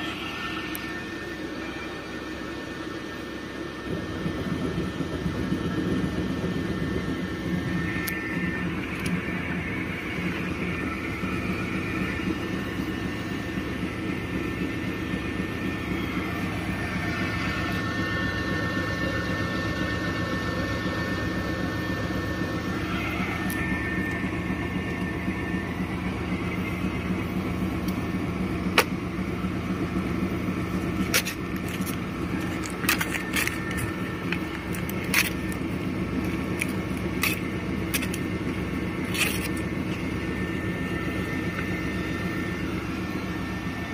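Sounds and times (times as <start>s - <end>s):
motor and roller hum: 0.0s - 43.9s
thin steady whine: 0.0s - 43.9s.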